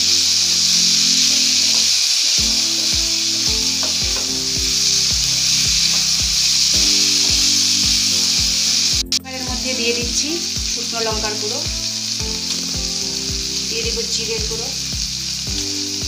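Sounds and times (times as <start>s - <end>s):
chicken sizzling in oil: 0.0s - 16.0s
background music with beat: 2.4s - 16.0s.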